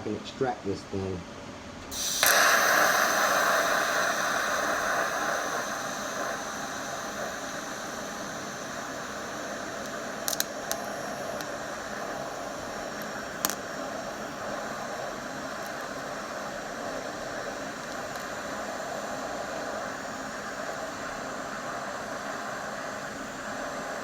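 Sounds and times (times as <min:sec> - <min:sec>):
welding arc hissing: 0:01.9 - 0:24.0.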